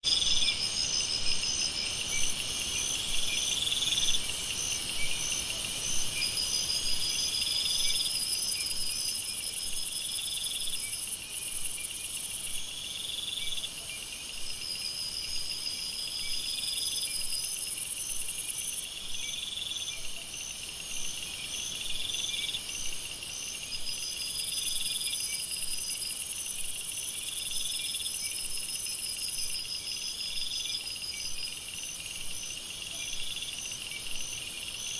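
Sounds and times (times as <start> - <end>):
high steady insect trill: 0.1 - 34.9.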